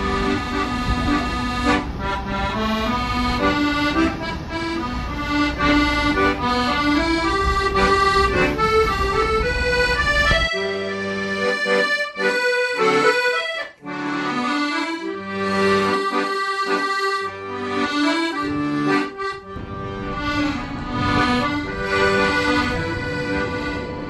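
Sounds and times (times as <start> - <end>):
accordion melody: 0.0 - 24.0
low musical accompaniment: 0.0 - 24.0.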